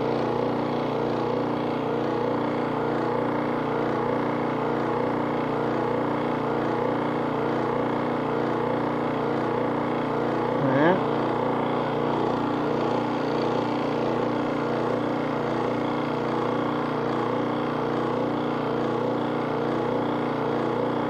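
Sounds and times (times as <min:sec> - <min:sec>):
refrigerant recovery machine running: 0:00.0 - 0:21.0.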